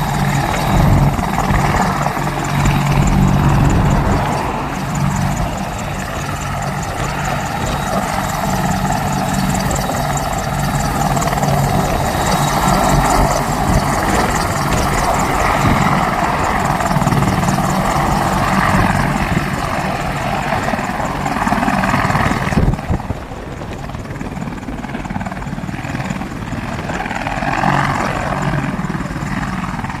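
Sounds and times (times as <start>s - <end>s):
helicopter rotors and engines: 0.0s - 30.0s.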